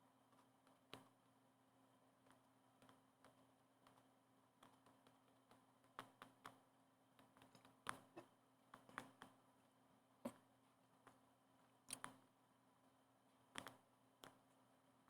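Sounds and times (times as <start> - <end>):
faint clicks and taps: 0.2 - 9.5, 10.2 - 12.3, 13.2 - 14.8.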